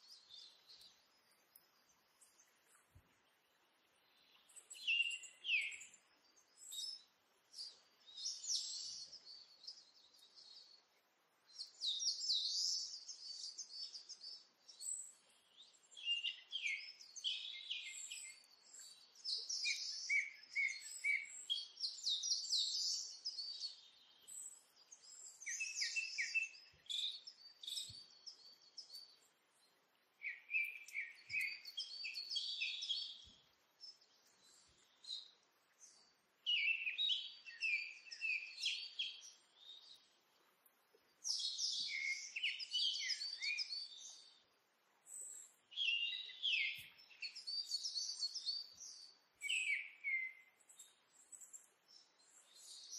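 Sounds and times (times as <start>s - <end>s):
birds singing: 0.0s - 40.2s, 41.1s - 52.9s.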